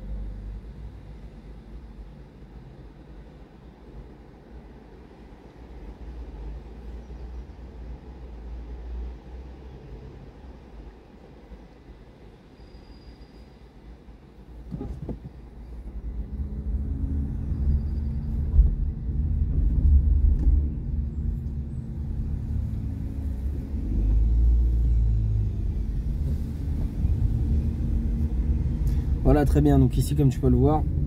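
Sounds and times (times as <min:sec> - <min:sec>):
car engine and road rumble: 0:00.0 - 0:12.3, 0:13.8 - 0:31.0.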